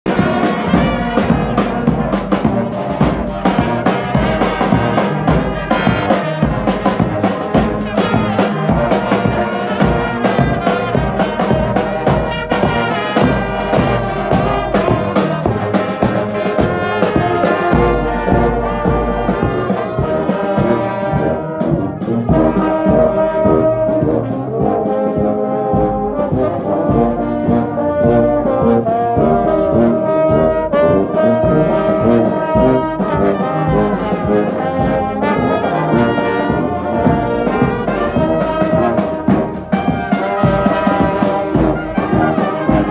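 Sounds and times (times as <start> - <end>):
marching brass band: 0.0 - 42.9
bass drum beat: 0.1 - 42.9.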